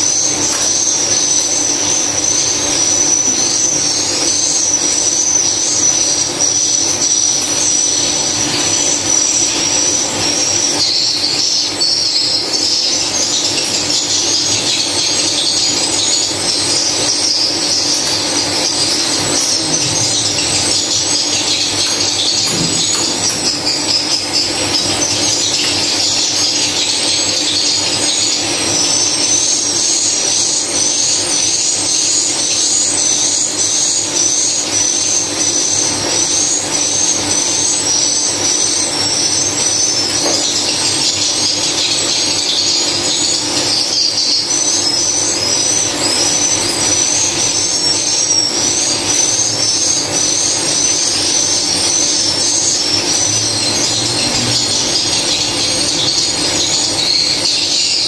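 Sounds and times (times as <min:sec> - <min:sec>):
swiftlets chirping: 0:00.0 - 0:58.0.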